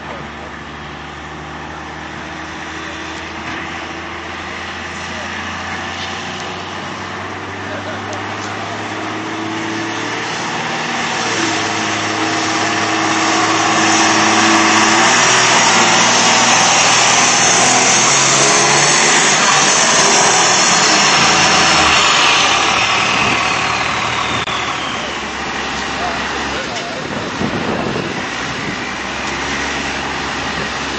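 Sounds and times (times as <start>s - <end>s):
diesel engine running hard: 0.0s - 30.9s
falling turbo whine: 0.0s - 30.9s.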